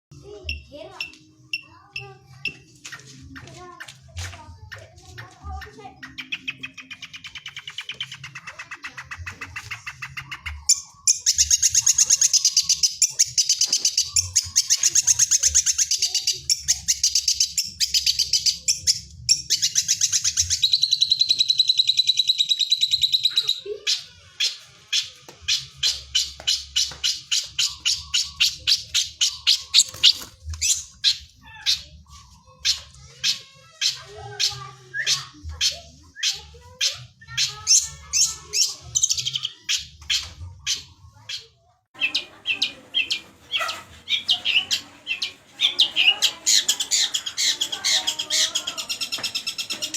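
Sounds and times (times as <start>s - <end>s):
bird chattering trill: 5.8s - 49.9s.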